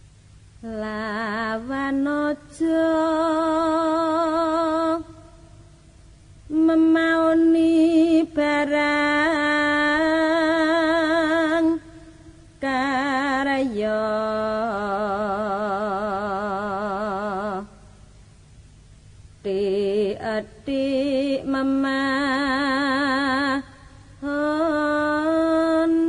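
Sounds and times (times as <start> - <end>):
person singing unaccompanied: 0.6 - 5.2, 6.5 - 17.8, 19.4 - 26.0.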